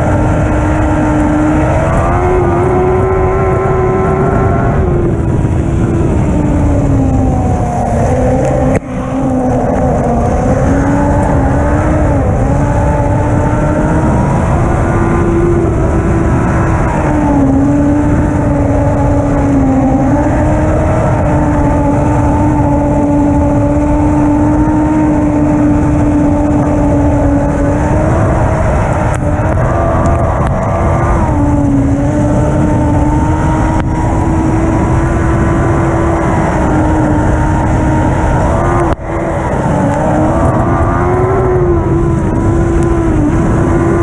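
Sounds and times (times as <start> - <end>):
race car engine at high revs: 0.0 - 44.0.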